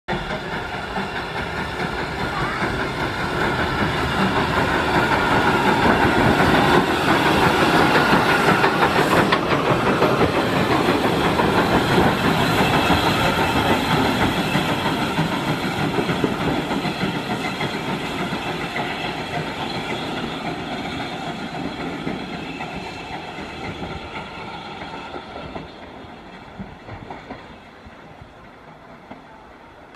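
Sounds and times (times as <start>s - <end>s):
steam locomotive passing: 0.1s - 29.9s.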